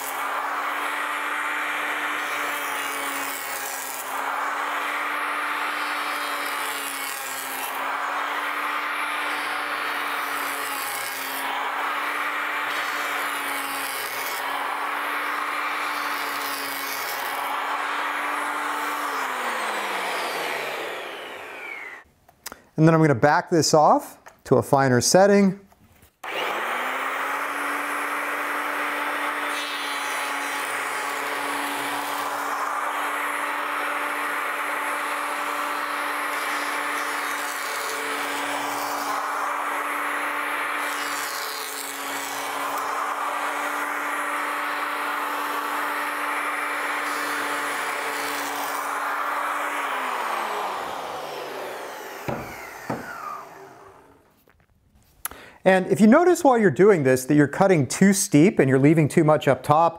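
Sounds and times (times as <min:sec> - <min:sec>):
power planer motor whine: 0:00.0 - 0:22.1, 0:26.2 - 0:54.4
planer cutting wood hiss: 0:00.0 - 0:22.6, 0:26.2 - 0:54.4.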